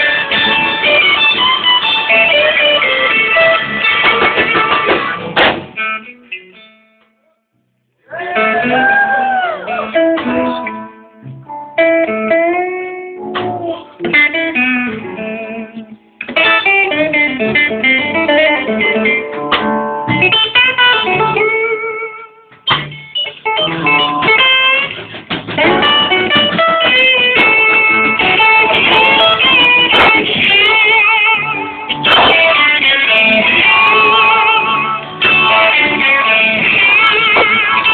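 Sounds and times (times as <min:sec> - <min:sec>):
electric blues guitar solo: 0:00.0 - 0:07.2, 0:08.0 - 0:37.9.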